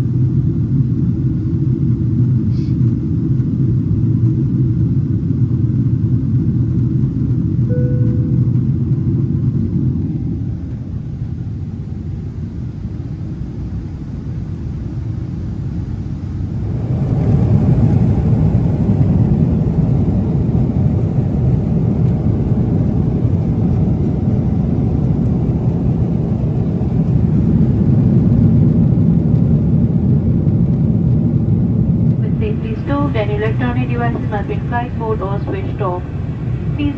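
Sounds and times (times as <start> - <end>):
airliner cabin engine rumble: 0.0 - 36.9.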